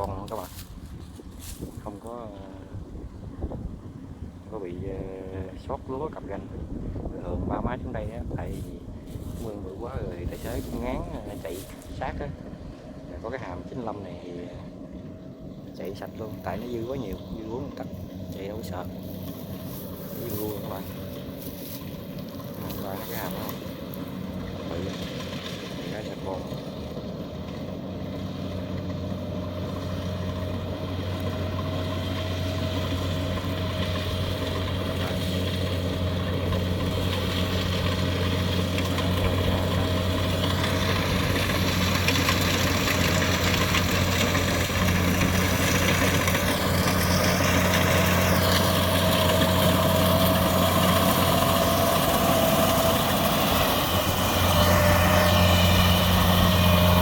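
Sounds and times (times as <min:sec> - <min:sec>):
combine harvester diesel engine: 0:00.0 - 0:57.0.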